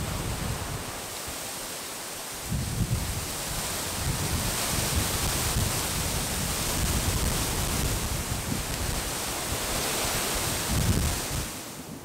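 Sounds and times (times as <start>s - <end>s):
wind buffeting microphone: 0.0s - 1.6s, 2.3s - 12.0s.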